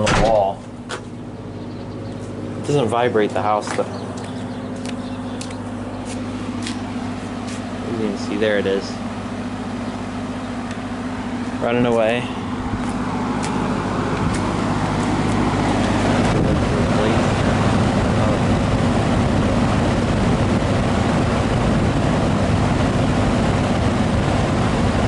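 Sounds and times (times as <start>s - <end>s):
fan motor hum: 0.0s - 25.0s
rush of air from fan blades: 0.0s - 25.0s.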